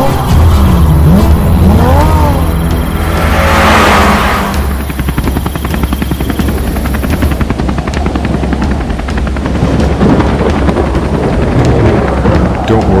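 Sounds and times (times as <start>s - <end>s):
fluttering low rumble: 0.0s - 13.0s.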